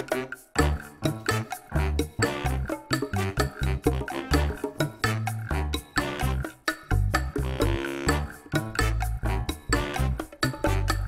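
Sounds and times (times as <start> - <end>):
music with bass and percussion: 0.0 - 11.0.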